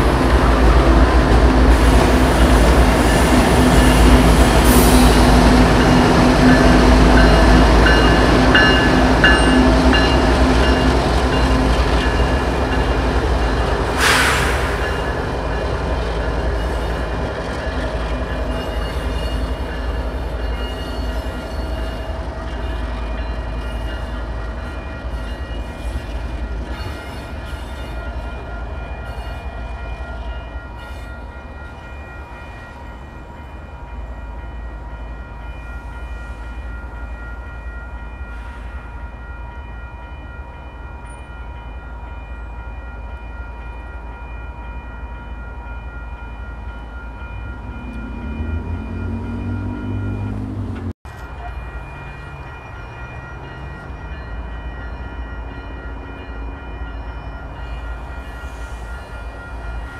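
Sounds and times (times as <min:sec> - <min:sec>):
crossing warning bell ringing: 0:00.0 - 0:59.9
diesel locomotives rumbling past: 0:00.0 - 0:59.9.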